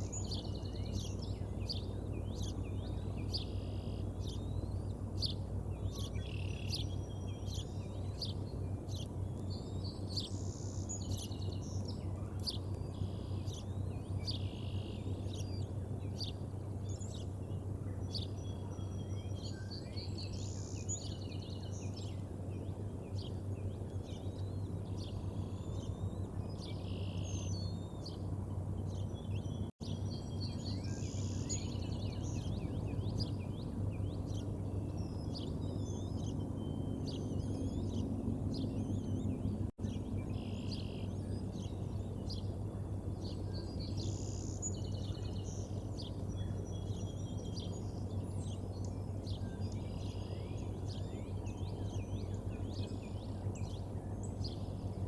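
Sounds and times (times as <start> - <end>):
small songbirds chirping: 0.0 - 55.0
steady low hum: 0.0 - 55.0.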